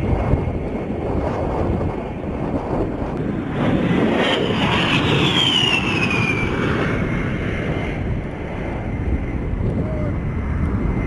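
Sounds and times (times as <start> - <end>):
jet engines whining: 0.0 - 11.0
steady low rumble: 0.0 - 11.0.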